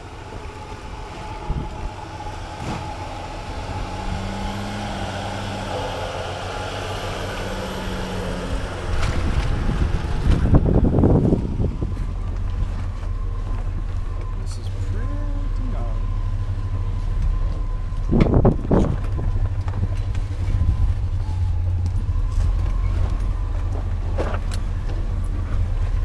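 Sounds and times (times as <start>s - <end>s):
vehicle engines crawling on rocky trail: 0.0s - 26.0s.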